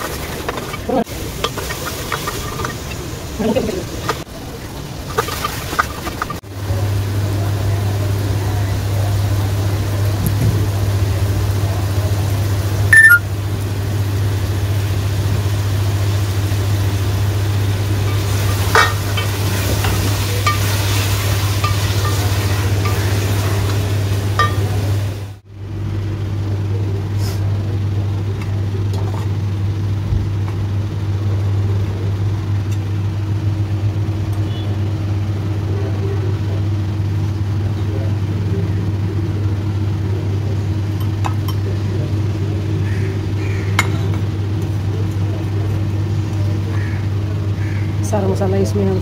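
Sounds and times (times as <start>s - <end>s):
food frying in a pot: 0.0s - 49.0s.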